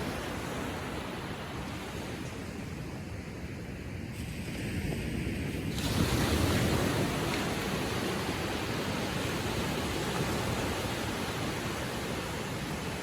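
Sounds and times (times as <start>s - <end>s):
ocean waves washing ashore: 0.0s - 13.0s.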